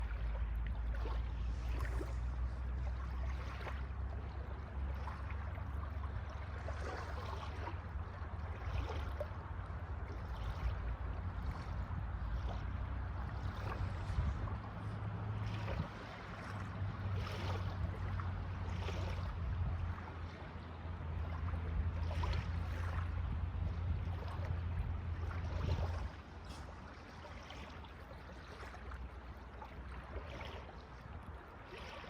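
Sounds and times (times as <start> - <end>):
steady low rumble: 0.0 - 30.1
sea water splashing and lapping: 0.0 - 32.0.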